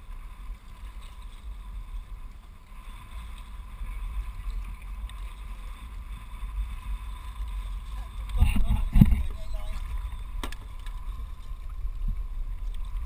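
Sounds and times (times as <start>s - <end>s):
paddle moving through water: 0.0s - 13.0s
wind rumble on microphone: 0.0s - 13.0s.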